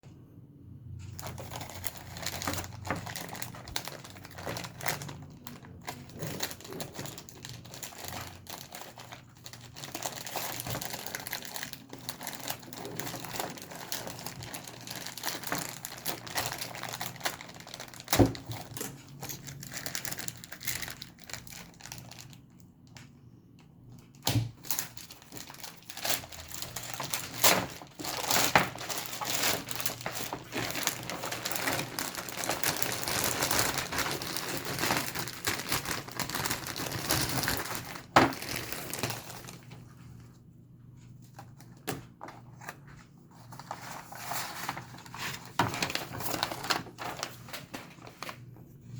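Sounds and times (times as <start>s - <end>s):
crinkly material rustling: 1.0s - 48.9s.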